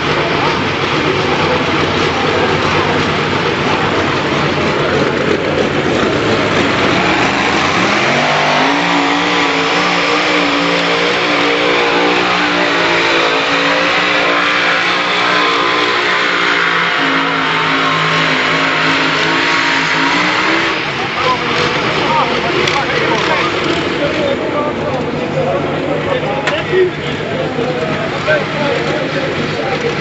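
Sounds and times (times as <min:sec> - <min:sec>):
large engine running: 0:00.0 - 0:30.0.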